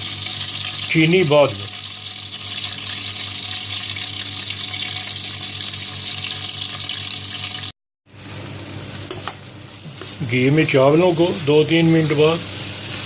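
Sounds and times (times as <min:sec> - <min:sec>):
ghee sizzling: 0:00.0 - 0:13.0.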